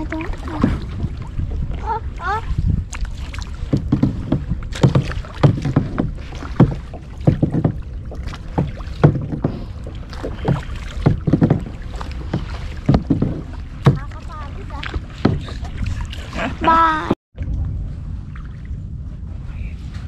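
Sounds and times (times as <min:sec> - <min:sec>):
kayak paddles splashing: 0:00.0 - 0:17.2
wind rumble on microphone: 0:00.0 - 0:20.0.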